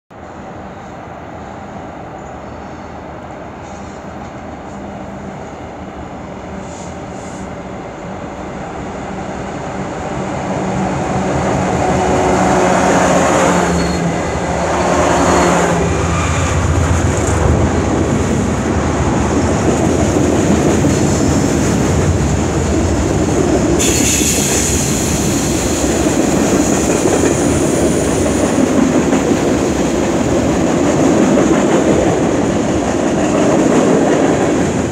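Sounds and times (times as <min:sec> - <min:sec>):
diesel locomotive engine drone: 0:00.1 - 0:34.9
train wheels on rails: 0:02.2 - 0:34.9.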